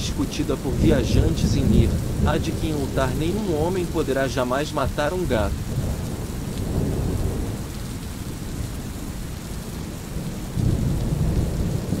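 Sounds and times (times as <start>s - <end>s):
low rolling thunder: 0.0s - 12.0s
steady rain: 0.0s - 12.0s.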